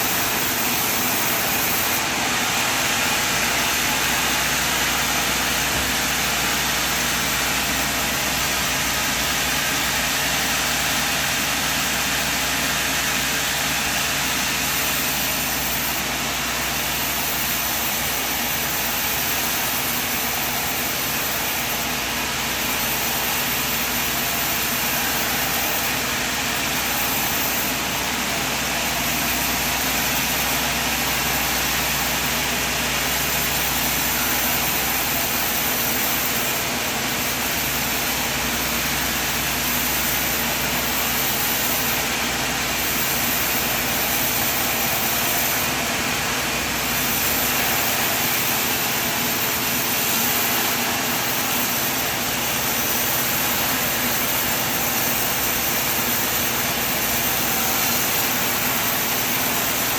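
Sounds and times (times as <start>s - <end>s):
sawmill machine running: 0.0s - 59.9s.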